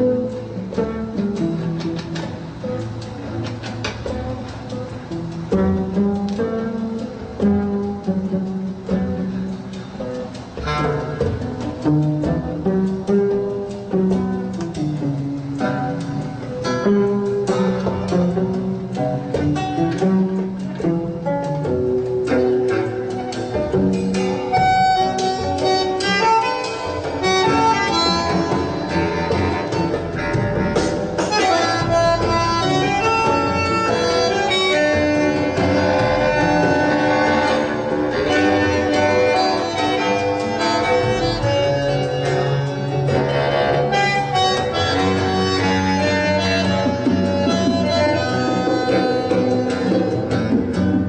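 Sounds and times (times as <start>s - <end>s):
acoustic instrumental music: 0.0s - 51.0s.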